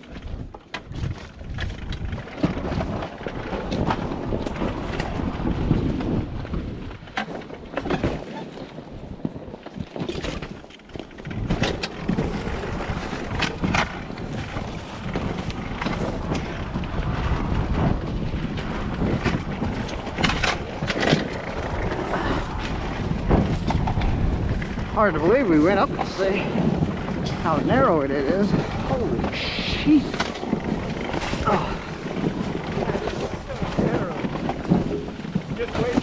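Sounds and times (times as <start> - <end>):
knocks and rattles: 0.0 - 36.0
wind rumbling on microphone: 0.0 - 36.0.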